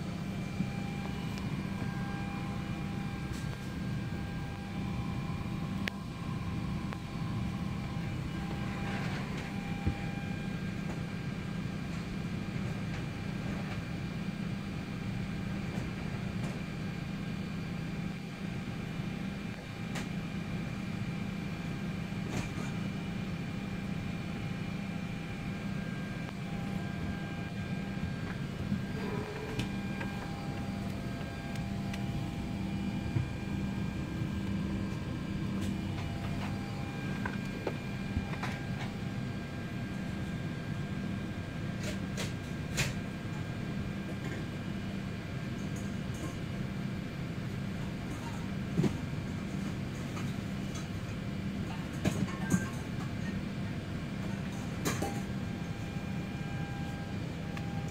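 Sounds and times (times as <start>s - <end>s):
air-conditioning hum: 0.0s - 57.9s.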